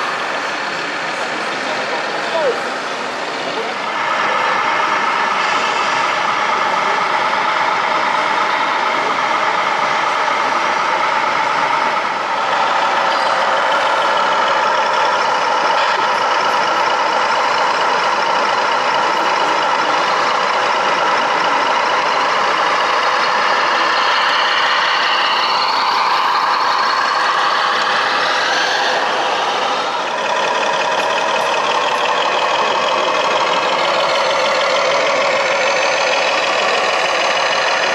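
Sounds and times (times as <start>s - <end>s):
simulated truck engine from small speaker: 0.0s - 37.9s.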